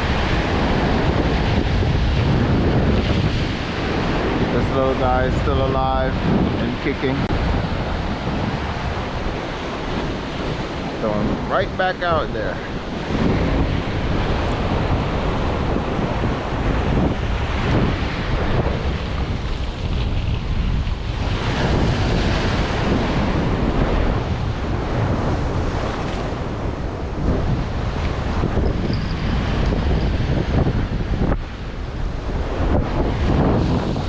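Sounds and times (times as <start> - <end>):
ocean surf breaking: 0.0 - 34.0
wind buffeting microphone: 0.0 - 34.0.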